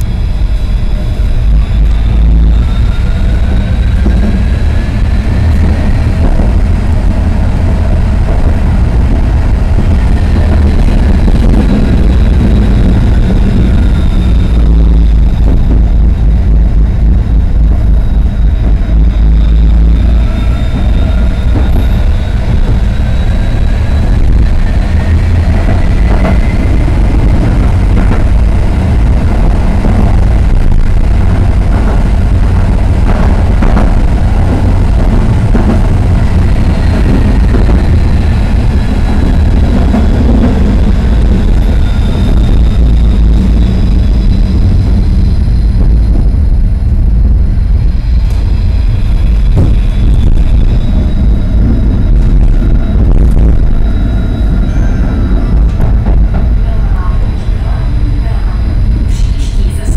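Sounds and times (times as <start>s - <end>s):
electric motor whine: 0.0s - 56.6s
rail clicks: 0.0s - 59.9s
tram wheels rumbling on rails: 0.0s - 59.9s.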